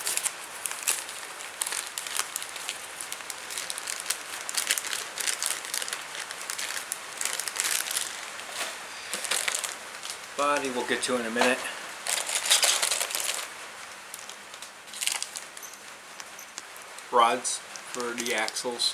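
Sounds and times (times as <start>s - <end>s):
plastic crinkling and clicking: 0.0s - 18.8s.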